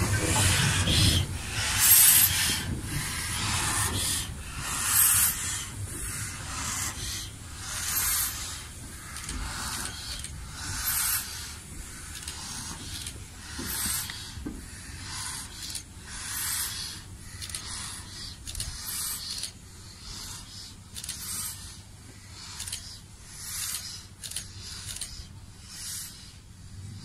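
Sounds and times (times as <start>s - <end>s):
steam locomotive chuffing: 0.0s - 26.4s.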